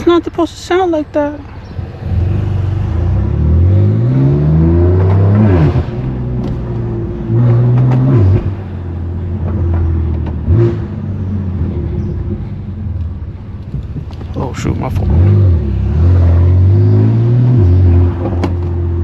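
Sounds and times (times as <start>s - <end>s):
car engine accelerating: 1.0s - 19.0s.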